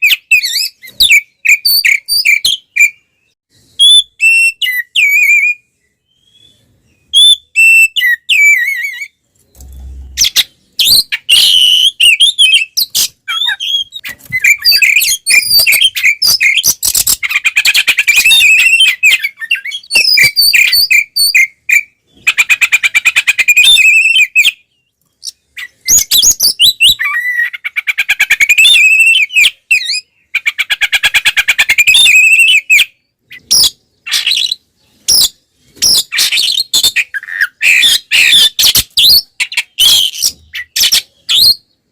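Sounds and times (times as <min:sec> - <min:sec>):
bird singing whistled phrases: 0:00.0 - 0:09.2, 0:10.2 - 0:22.0, 0:23.4 - 0:27.6, 0:28.4 - 0:30.2, 0:31.7 - 0:41.8.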